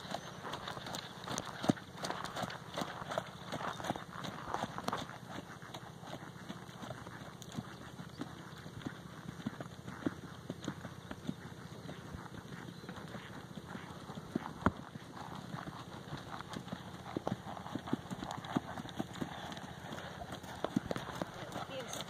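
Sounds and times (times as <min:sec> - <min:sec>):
horse hoofbeats on dirt: 0:00.0 - 0:22.0.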